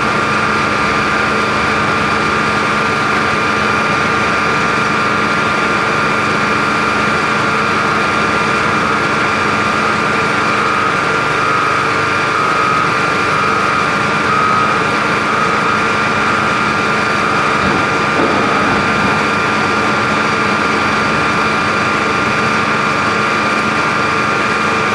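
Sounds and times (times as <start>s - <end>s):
constant high whine: 0.0s - 24.9s
low diesel engine drone: 0.0s - 24.9s.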